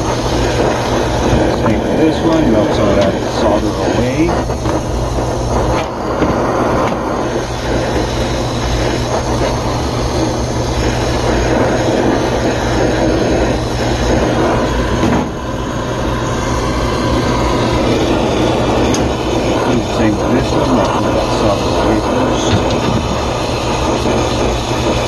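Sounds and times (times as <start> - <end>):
low hum: 0.0 - 25.0
torch flame hissing: 0.0 - 25.0.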